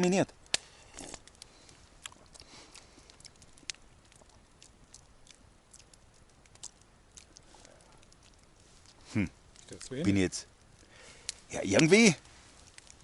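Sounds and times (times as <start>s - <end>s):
campfire crackling: 0.0s - 13.0s
low hiss: 0.0s - 13.0s.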